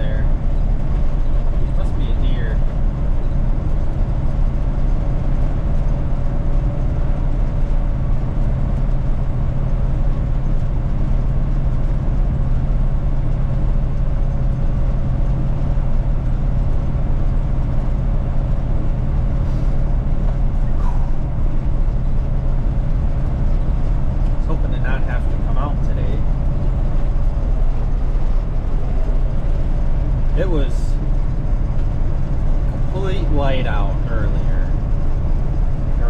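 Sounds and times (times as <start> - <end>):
faint steady whine: 0.0 - 36.0
pickup truck interior drone: 0.0 - 36.0.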